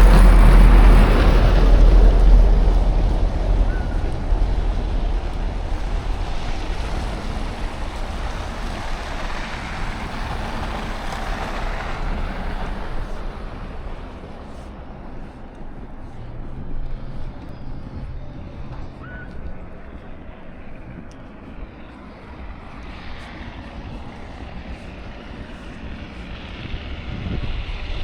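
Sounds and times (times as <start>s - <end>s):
wind rumbling on microphone: 0.0s - 28.0s.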